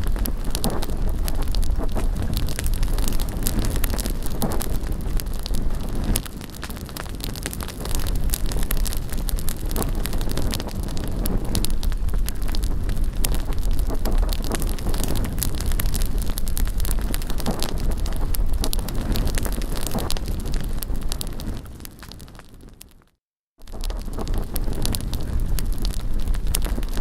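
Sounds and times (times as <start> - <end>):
wind on microphone: 0.0 - 22.8, 23.6 - 27.0
rush of flame: 0.0 - 22.9, 23.6 - 27.0
bonfire crackling and popping: 0.0 - 27.0.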